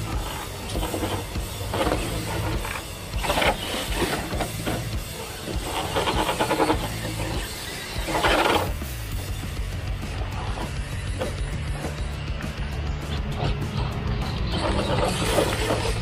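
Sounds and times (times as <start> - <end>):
low background music: 0.0 - 16.0
toy truck motor and gears whirring: 0.0 - 16.0.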